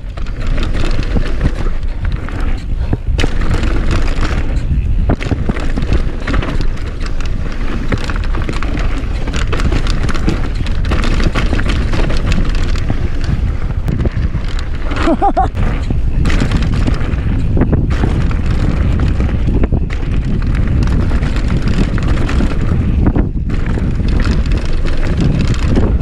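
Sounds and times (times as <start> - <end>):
bike chain and frame clattering: 0.0 - 26.0
tyres on dirt: 0.0 - 26.0
wind on microphone: 0.0 - 26.0.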